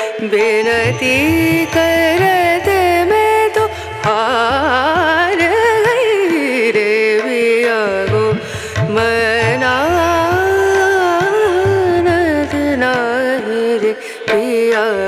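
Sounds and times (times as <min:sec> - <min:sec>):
light percussion: 0:00.0 - 0:15.0.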